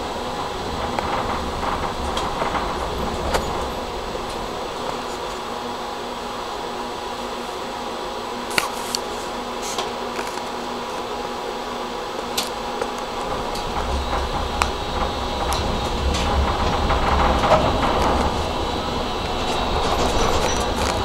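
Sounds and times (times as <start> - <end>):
tram electrical hum: 0.0 - 21.0
tram pulling away rumbling: 0.0 - 21.0.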